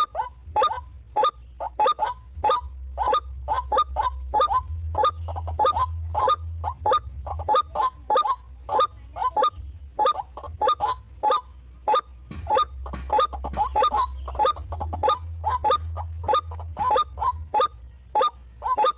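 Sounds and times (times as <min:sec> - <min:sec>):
waterhen honking calls: 0:00.0 - 0:18.9.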